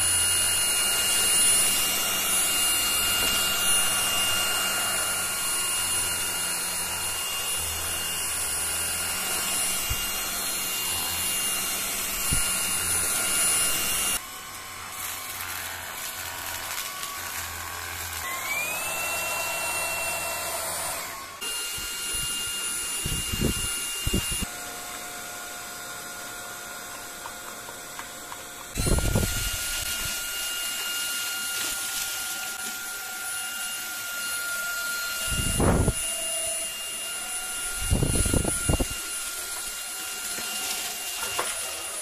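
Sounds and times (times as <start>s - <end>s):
vacuum cleaner motor whining: 0.0s - 42.0s.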